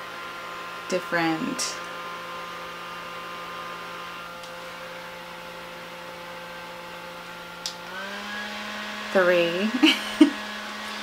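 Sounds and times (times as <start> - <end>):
electric fan motor hum: 0.0 - 11.0.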